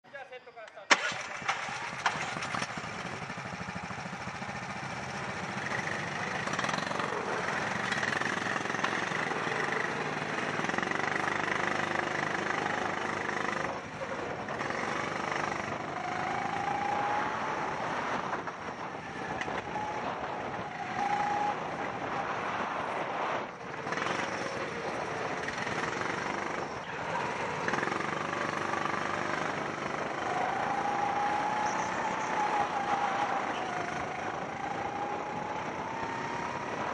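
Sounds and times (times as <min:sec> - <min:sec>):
go-kart engine revving: 0:00.9 - 0:36.9.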